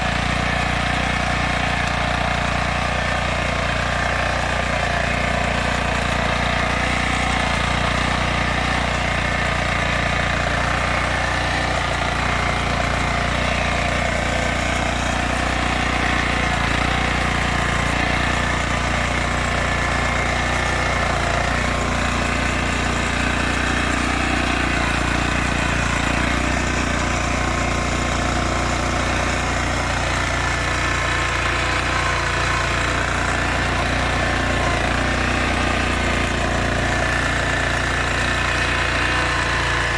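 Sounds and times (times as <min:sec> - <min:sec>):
digger engine throbbing: 0:00.0 - 0:39.9.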